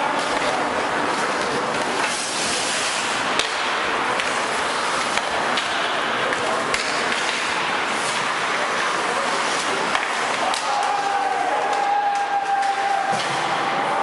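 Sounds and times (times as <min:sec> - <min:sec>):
crowd noise: 0:00.0 - 0:14.0
hockey sticks and puck clacking: 0:00.0 - 0:14.0
skates scraping ice: 0:00.0 - 0:14.0.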